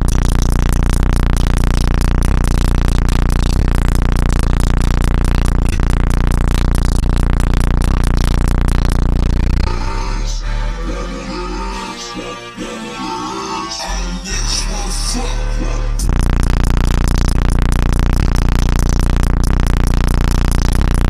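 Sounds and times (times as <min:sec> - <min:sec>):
distorted loud bass tone: 0:00.0 - 0:21.0.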